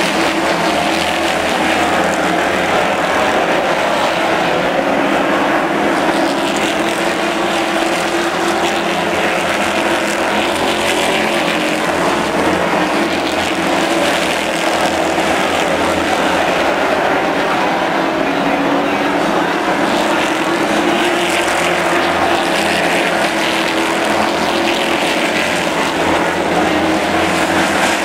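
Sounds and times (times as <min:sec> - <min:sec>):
race car engines roaring: 0:00.0 - 0:28.0.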